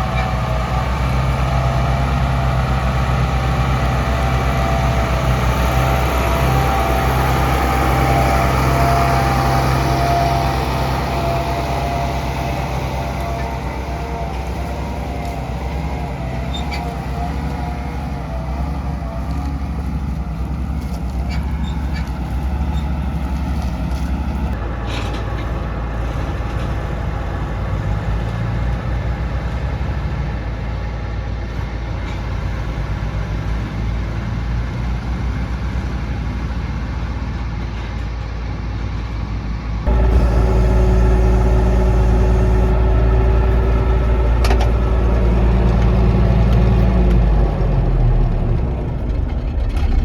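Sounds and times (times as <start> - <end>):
combine harvester droning: 0.0 - 50.0.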